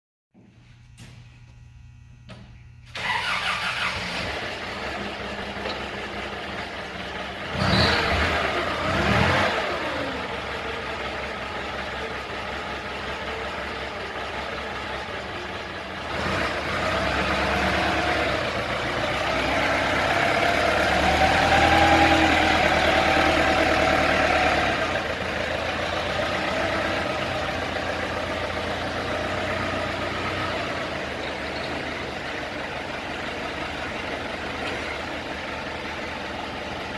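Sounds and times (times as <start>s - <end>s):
forklift engine running and revving: 3.0s - 36.9s.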